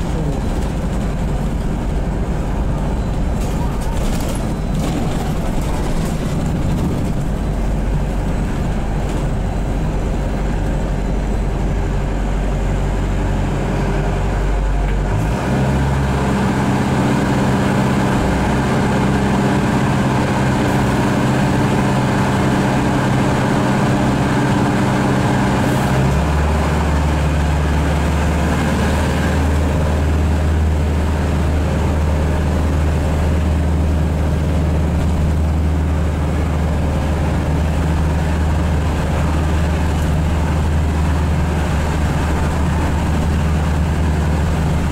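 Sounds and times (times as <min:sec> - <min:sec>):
diesel engine drone inside bus: 0:00.0 - 0:44.9.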